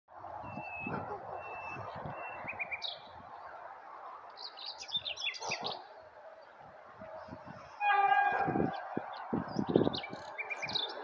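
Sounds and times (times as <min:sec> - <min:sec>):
outdoor background noise: 0:00.1 - 0:11.0
small songbirds chirping: 0:00.4 - 0:11.0.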